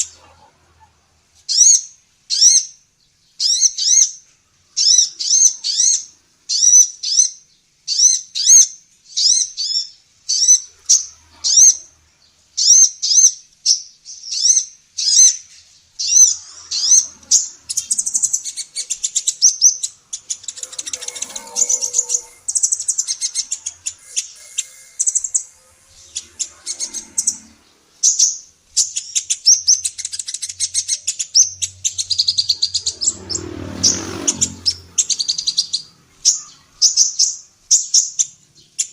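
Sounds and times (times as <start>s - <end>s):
bird chirping and twittering: 0.0s - 38.9s.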